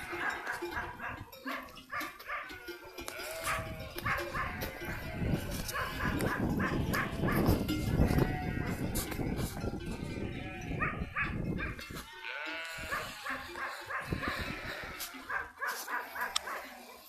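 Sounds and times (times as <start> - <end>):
sheep bleating: 0.0 - 17.0.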